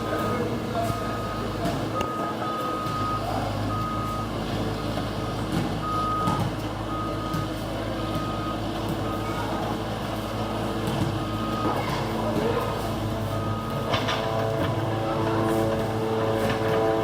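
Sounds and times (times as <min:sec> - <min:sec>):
travel alarm beeping: 0:00.0 - 0:09.6, 0:10.4 - 0:15.5
diesel engine running: 0:00.0 - 0:17.0.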